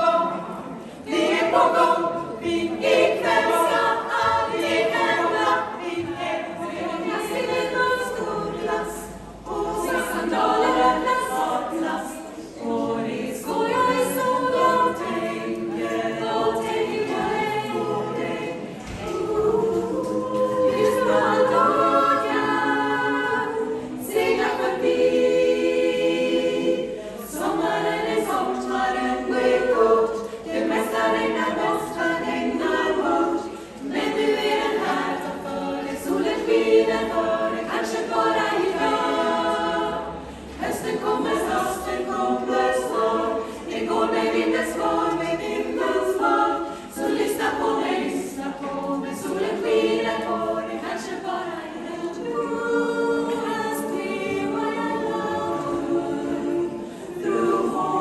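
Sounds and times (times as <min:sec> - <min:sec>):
women's chorus singing a cappella: 0:00.0 - 0:58.0.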